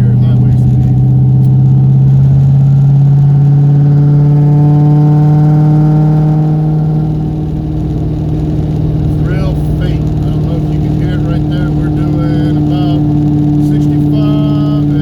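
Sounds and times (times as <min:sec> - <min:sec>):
car engine under light throttle: 0:00.0 - 0:15.0.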